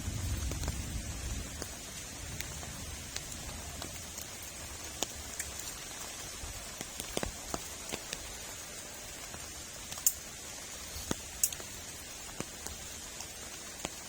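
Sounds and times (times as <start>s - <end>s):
heavy rain hissing: 0.0s - 14.0s
raindrop impacts: 0.0s - 14.0s.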